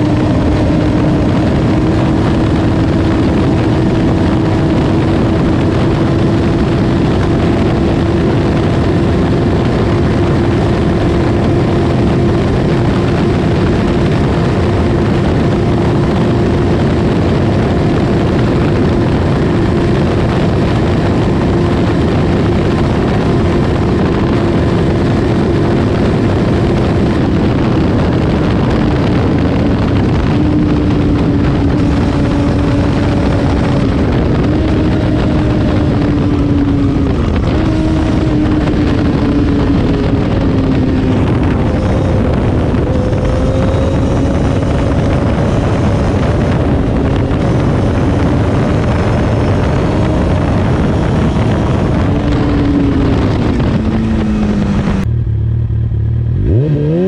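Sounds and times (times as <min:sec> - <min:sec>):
heavy wind rush: 0:00.0 - 0:57.0
motorcycle engine decelerating: 0:00.0 - 0:57.0.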